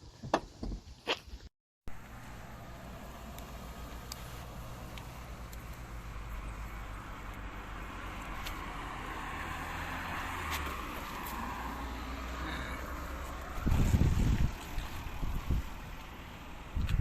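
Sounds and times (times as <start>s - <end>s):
car engine humming: 1.9s - 16.8s.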